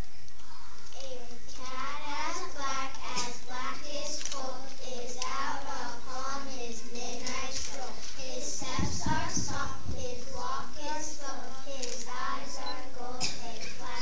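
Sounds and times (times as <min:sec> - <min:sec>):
children reciting in unison: 0:00.0 - 0:14.0.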